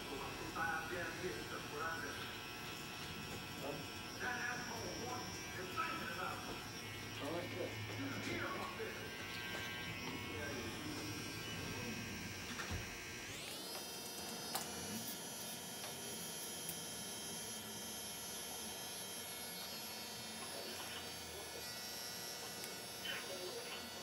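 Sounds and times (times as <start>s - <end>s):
electric hair clipper buzzing: 0.0s - 24.0s.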